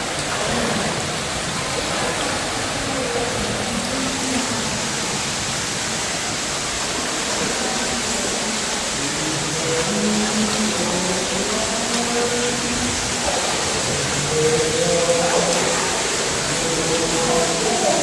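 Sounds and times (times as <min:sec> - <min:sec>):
cave stream rushing: 0:00.0 - 0:18.0.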